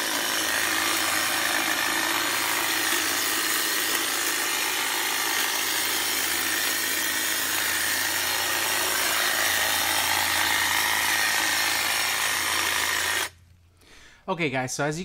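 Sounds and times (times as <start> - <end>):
hedge trimmer cutting branches: 0.0 - 13.4.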